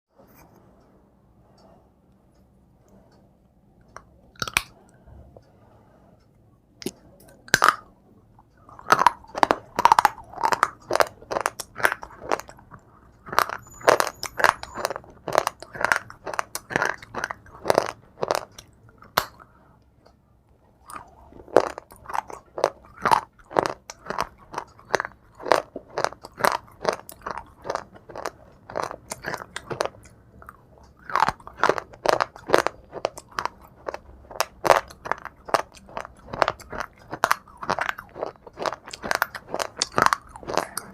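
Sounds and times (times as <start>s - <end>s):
person chewing brittle shale: 3.9s - 5.0s, 6.8s - 19.5s, 20.7s - 40.9s.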